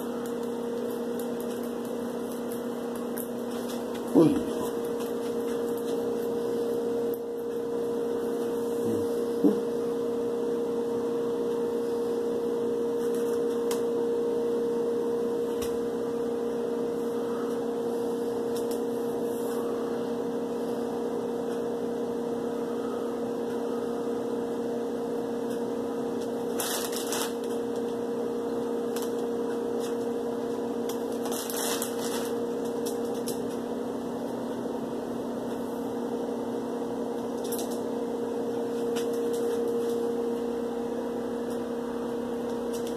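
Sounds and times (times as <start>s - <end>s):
machine hum: 0.0s - 42.9s.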